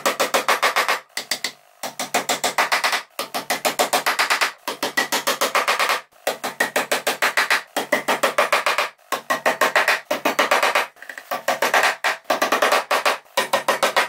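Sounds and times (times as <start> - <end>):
background music with percussive beat: 0.0 - 14.0.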